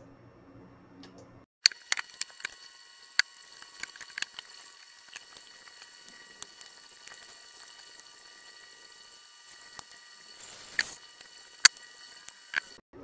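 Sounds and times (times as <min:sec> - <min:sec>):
electrical crackles and clicks: 0:01.0 - 0:12.8
faint steady whine: 0:01.7 - 0:13.0.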